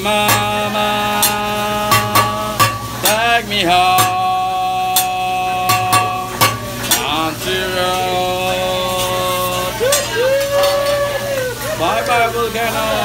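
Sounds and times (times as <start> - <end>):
food sizzling: 0.0 - 13.0
metal utensils clacking on griddle: 0.2 - 11.1.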